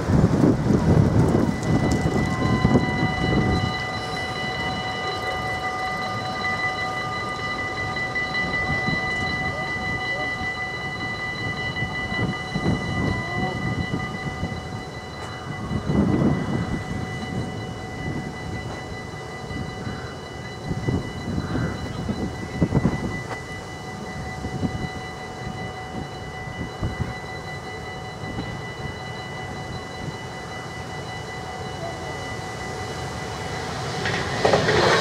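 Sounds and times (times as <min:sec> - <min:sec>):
level crossing warning bells: 0:00.0 - 0:35.0
road traffic rumble: 0:00.0 - 0:35.0.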